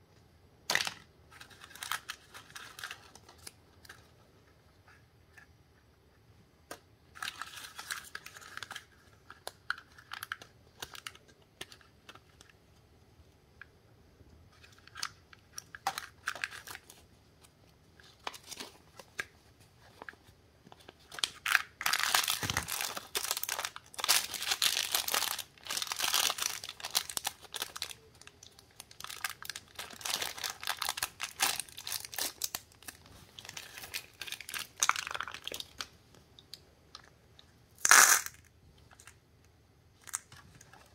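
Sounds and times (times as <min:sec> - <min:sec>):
plastic candy wrapper crinkling: 0:00.7 - 0:04.1, 0:07.1 - 0:12.8, 0:14.5 - 0:37.1, 0:37.8 - 0:39.2, 0:40.0 - 0:40.9.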